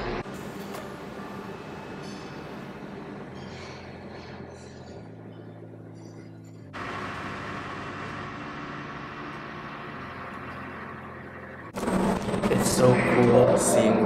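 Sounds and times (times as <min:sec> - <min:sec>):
ship mechanical hum: 0:00.0 - 0:14.0.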